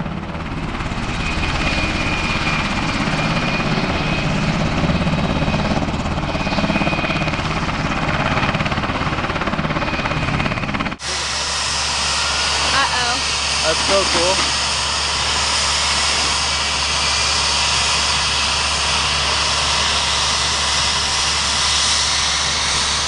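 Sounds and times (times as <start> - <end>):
helicopter rotor beat: 0.0 - 23.0
high engine whine: 0.0 - 23.0.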